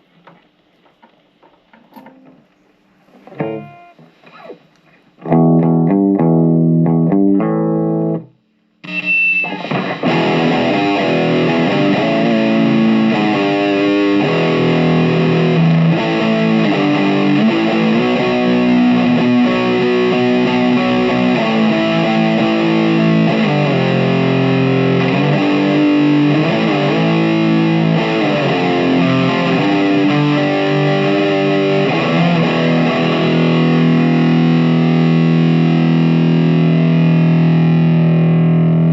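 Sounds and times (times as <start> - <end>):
distorted electric guitar riffing: 3.3 - 38.9.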